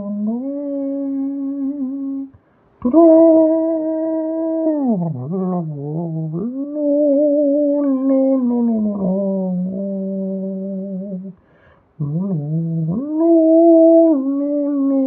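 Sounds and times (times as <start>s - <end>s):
person humming held notes: 0.0s - 11.4s, 12.0s - 15.0s.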